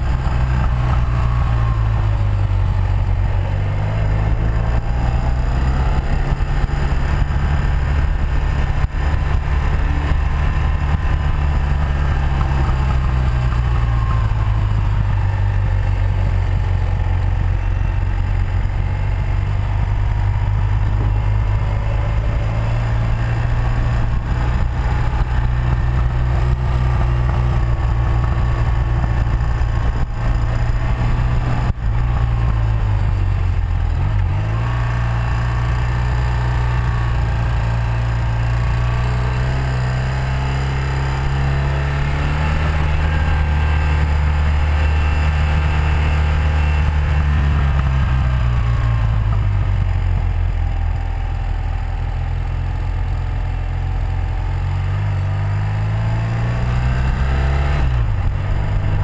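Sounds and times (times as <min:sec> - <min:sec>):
wind noise: 0:00.0 - 0:51.3, 0:54.2 - 0:59.0
motorcycle engine revving: 0:00.0 - 0:59.0.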